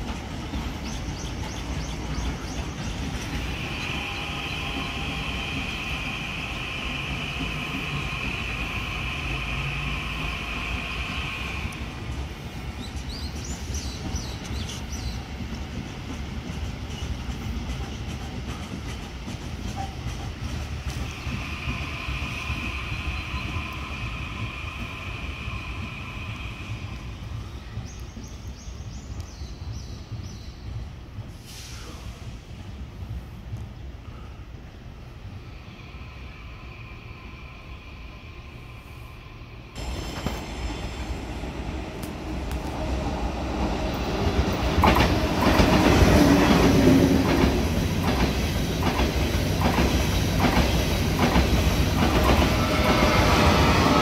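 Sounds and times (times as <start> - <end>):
train rumbling over tracks: 0.0 - 54.0.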